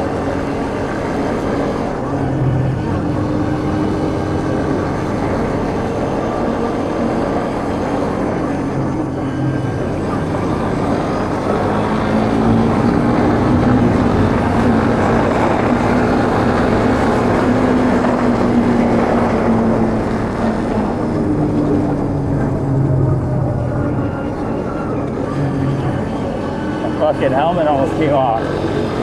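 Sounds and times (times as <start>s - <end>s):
motorbike engine running: 0.0s - 29.0s
wind rush over microphone: 0.0s - 29.0s.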